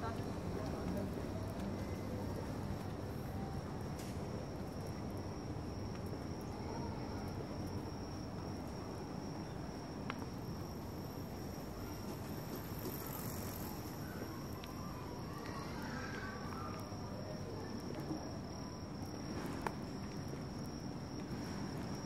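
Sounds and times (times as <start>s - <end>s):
city street rumble: 0.0s - 22.0s
crickets trilling: 0.0s - 22.0s.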